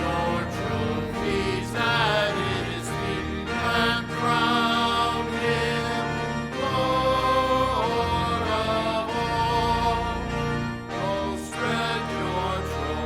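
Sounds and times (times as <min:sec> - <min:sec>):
instrumental accompaniment: 0:00.0 - 0:13.0
voices singing a hymn: 0:00.0 - 0:13.0.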